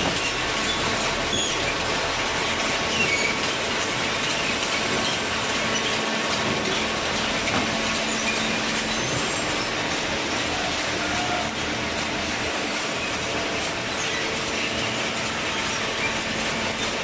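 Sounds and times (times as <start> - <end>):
baler machine running: 0.0 - 17.0.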